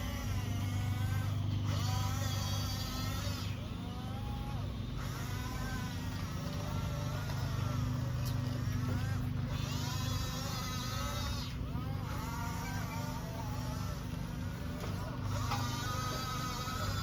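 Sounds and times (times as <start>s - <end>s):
toy bulldozer engine drone: 0.0s - 17.0s.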